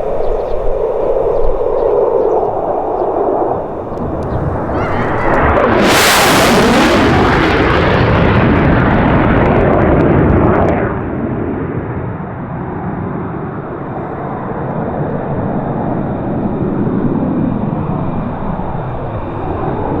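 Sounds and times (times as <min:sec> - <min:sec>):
military aircraft engines roaring: 0:00.0 - 0:09.6, 0:10.2 - 0:20.0.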